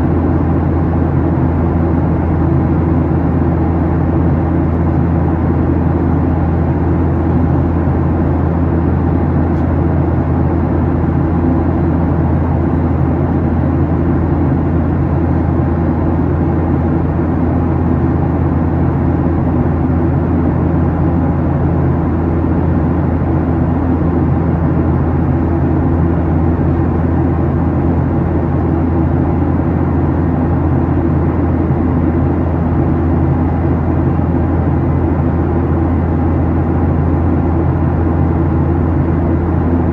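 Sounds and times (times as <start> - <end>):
turbofan engines drone: 0.0 - 39.9.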